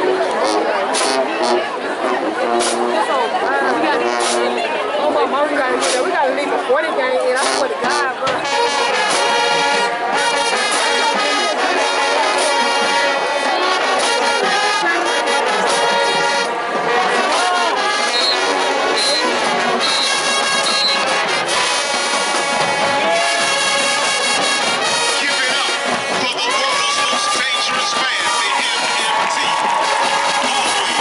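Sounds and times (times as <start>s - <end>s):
marching band brass playing: 0.0s - 31.0s.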